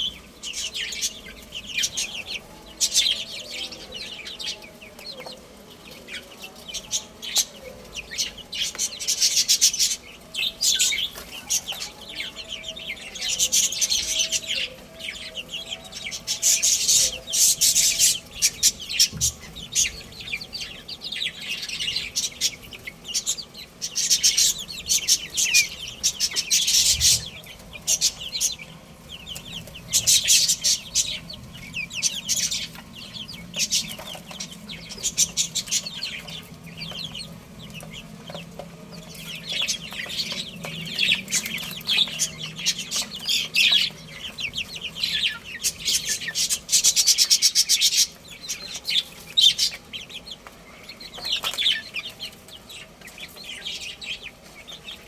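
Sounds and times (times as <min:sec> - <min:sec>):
baby chicks cheeping: 0:00.0 - 0:55.0.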